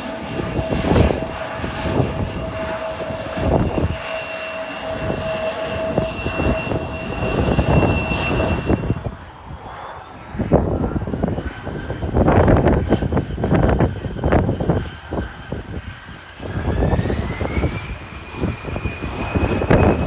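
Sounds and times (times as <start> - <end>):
jet engines whining: 0.0 - 20.0
wind buffeting microphone: 0.0 - 20.0.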